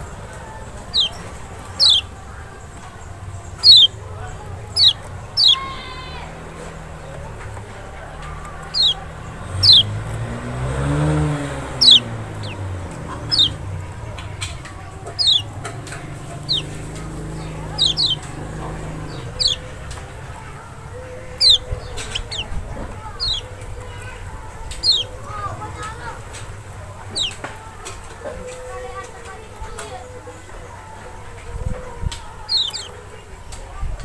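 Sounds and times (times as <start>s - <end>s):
bird high falling calls: 0.0s - 7.6s, 8.2s - 27.4s, 32.3s - 33.2s.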